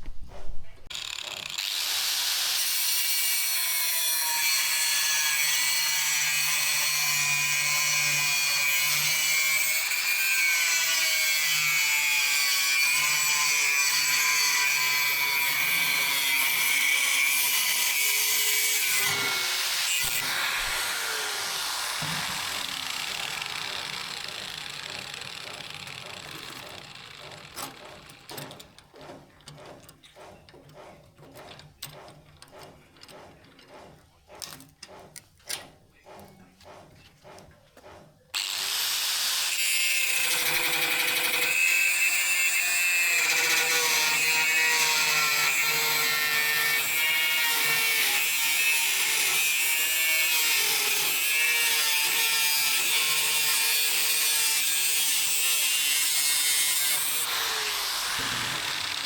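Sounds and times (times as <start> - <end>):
power tool grinding steel: 0.9 - 28.8, 38.4 - 59.0.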